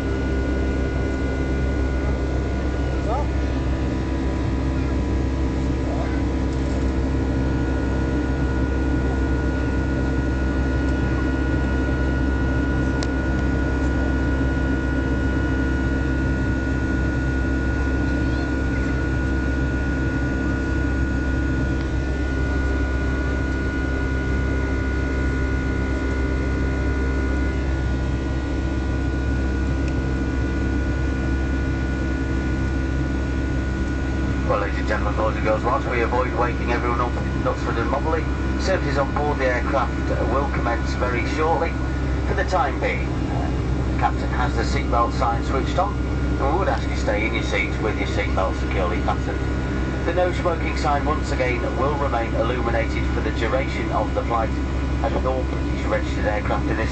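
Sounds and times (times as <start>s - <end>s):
airplane cabin engine drone: 0.0s - 56.9s.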